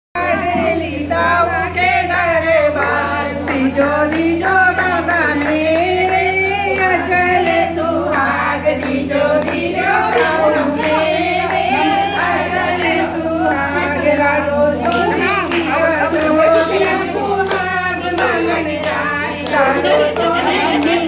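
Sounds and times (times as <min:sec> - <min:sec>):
women singing together: 0:00.2 - 0:21.0.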